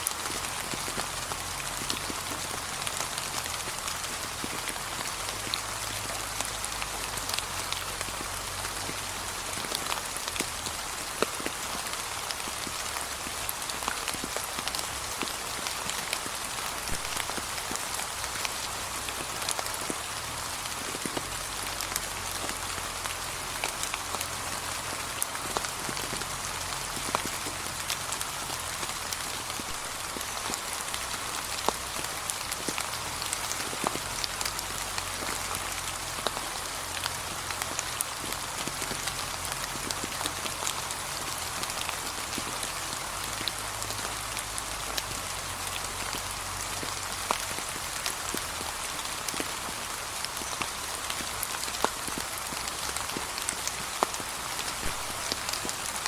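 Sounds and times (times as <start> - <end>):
gentle rain on fallen leaves: 0.0 - 56.0.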